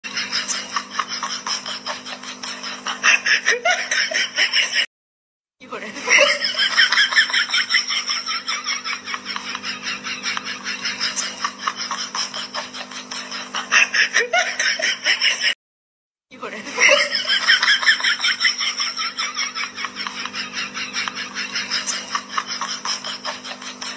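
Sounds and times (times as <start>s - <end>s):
laugh track giggling: 0.0s - 4.9s, 5.6s - 15.6s, 16.3s - 23.9s.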